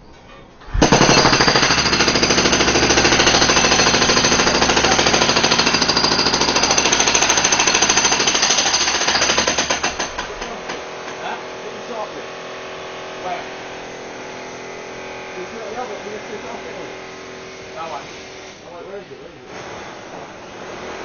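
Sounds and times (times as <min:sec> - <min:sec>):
jackhammer pounding: 0:00.8 - 0:18.0.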